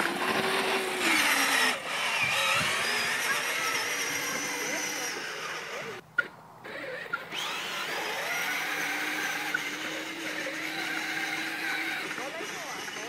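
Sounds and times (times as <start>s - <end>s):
toy motor and gearbox whining: 0.0s - 6.0s, 6.7s - 13.0s.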